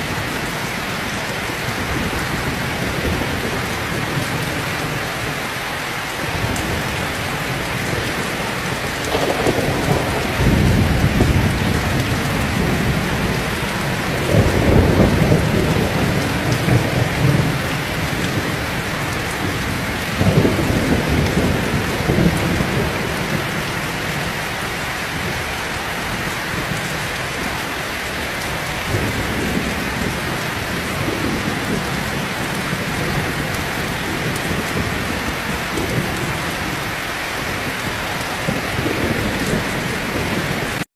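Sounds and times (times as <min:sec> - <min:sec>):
thunder rumbling: 0:00.0 - 0:40.8
heavy rain falling: 0:00.0 - 0:40.9.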